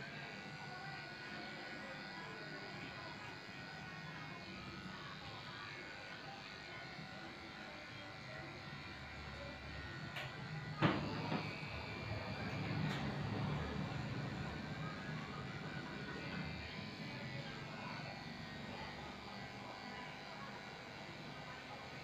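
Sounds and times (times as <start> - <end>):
electric clipper buzzing: 0.0 - 22.0.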